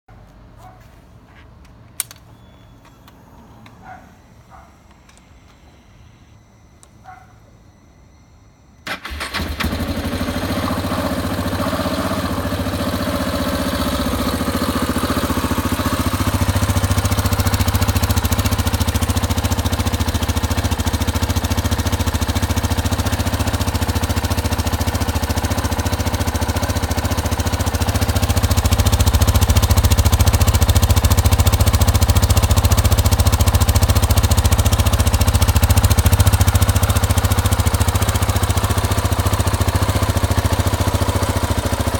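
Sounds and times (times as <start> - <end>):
motorcycle engine starting and idling: 1.6 - 5.8, 8.8 - 41.9.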